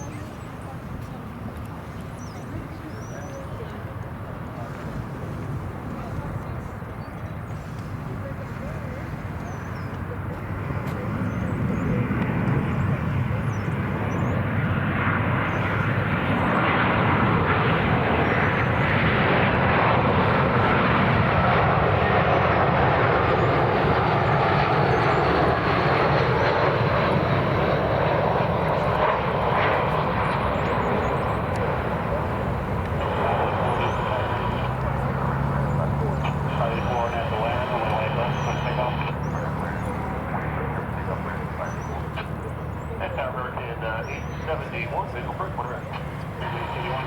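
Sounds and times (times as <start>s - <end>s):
jet airliner engines roaring: 0.0s - 47.0s.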